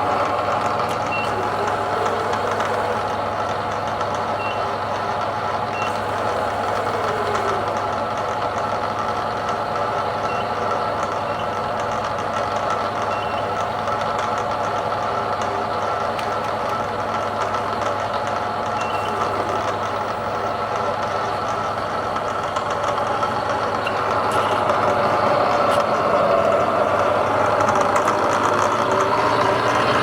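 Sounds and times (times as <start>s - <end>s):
milling machine motor hum: 0.0s - 30.0s.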